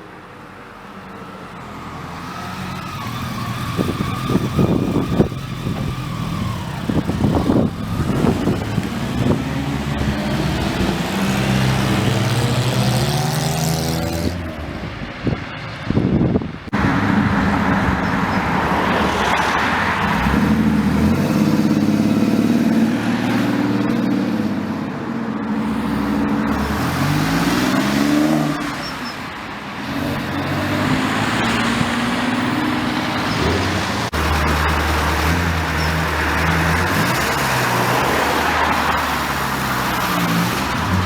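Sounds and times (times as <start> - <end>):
car engines revving and accelerating: 0.0 - 41.0.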